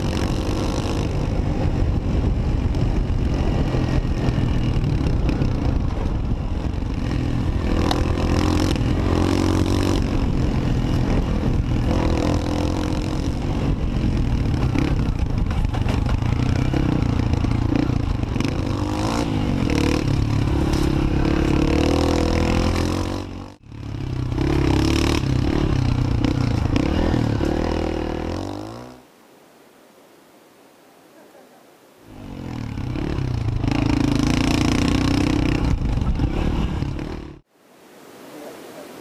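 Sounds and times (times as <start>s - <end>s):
motorcycle engine running: 0.0s - 28.8s, 32.1s - 37.5s.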